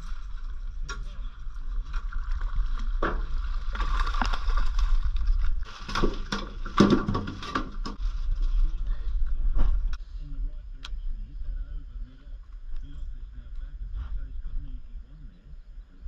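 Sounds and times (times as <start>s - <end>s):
wind rumble on microphone: 0.0s - 5.7s, 7.6s - 16.0s.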